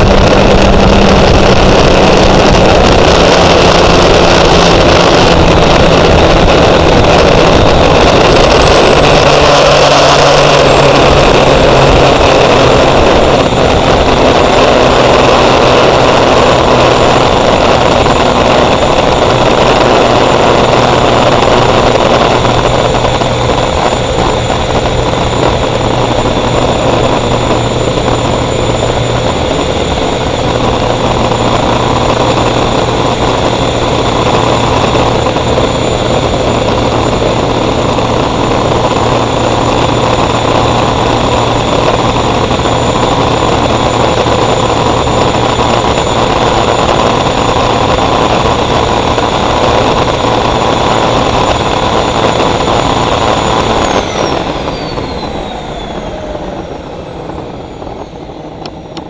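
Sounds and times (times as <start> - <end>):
engine and water rush: 0.0 - 59.0
gas turbine high whine: 0.0 - 59.0.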